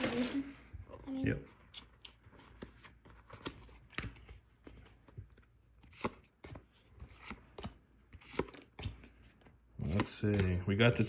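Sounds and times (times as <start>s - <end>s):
cards being flipped: 1.5s - 11.0s.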